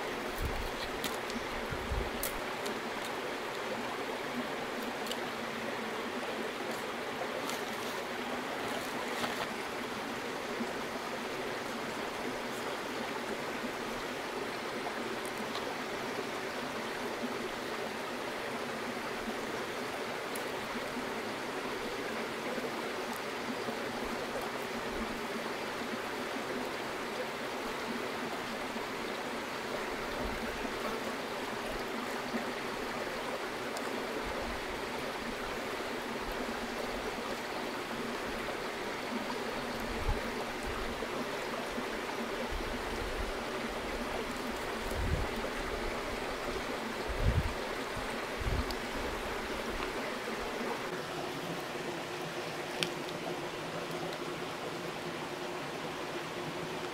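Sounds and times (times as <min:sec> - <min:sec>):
stream rushing: 0:00.0 - 0:56.9.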